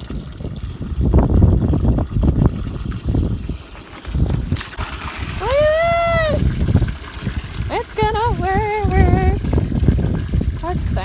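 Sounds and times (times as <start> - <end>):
water trickling through gutter: 0.0 - 11.0.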